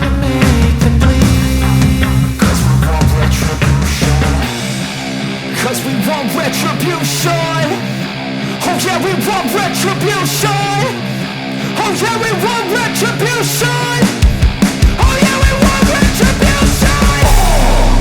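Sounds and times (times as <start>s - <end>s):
heavy bass: 0.0s - 12.4s, 13.1s - 18.0s
rock music: 0.0s - 18.0s.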